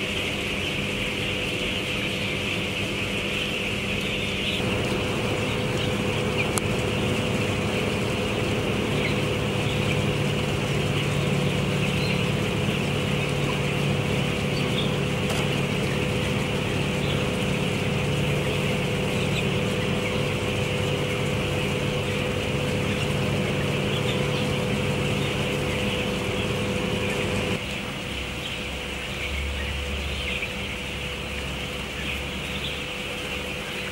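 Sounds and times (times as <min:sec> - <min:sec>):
chicks cheeping: 0:00.0 - 0:33.9
machinery hum: 0:00.0 - 0:33.9.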